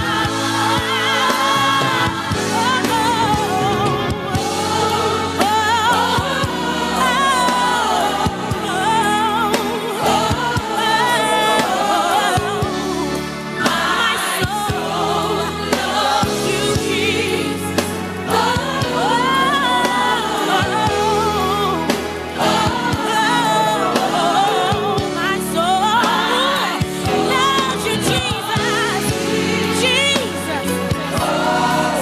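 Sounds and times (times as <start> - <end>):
backing band with bass: 0.0 - 32.0
steady drum beat: 0.0 - 32.0
voices singing gospel: 0.0 - 32.0.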